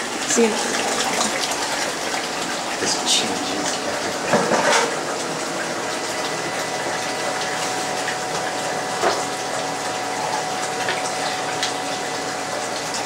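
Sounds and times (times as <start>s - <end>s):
faint pump hum: 0.0s - 13.0s
water running through pipes: 0.0s - 13.0s.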